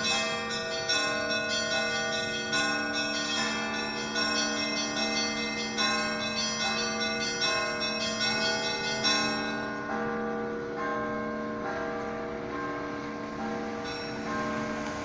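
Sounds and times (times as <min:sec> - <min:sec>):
church bells ringing in a peal: 0:00.0 - 0:15.0
low hum of large bells: 0:00.0 - 0:15.0.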